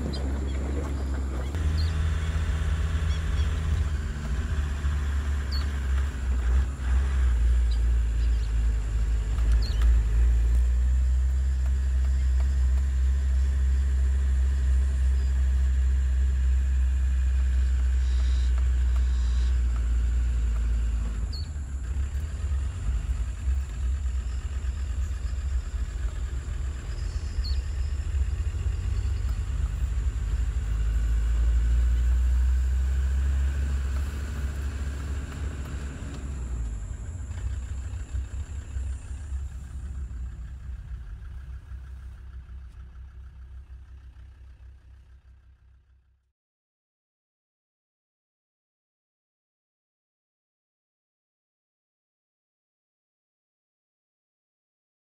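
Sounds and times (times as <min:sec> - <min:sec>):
vehicle engine rumble: 0:00.0 - 0:46.3.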